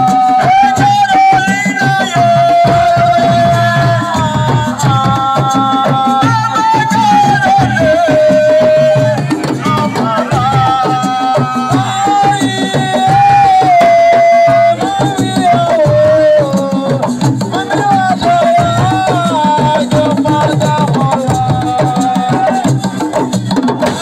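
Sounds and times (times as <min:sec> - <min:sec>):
fast hand drums: 0:00.0 - 0:24.0.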